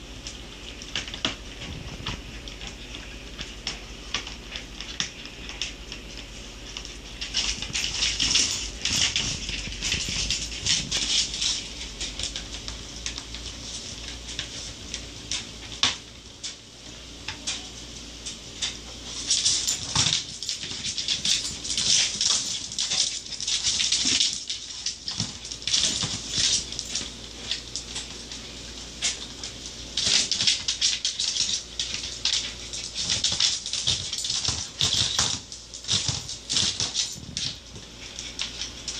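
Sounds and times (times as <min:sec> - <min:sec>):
dog claws clicking on floor: 0:00.2 - 0:16.6, 0:17.3 - 0:38.9.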